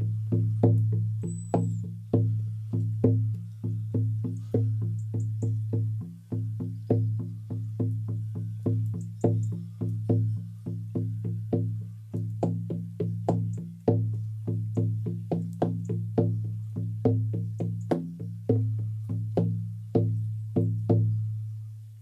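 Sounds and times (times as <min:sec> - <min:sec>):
frame drum deep booms: 0:00.0 - 0:21.2.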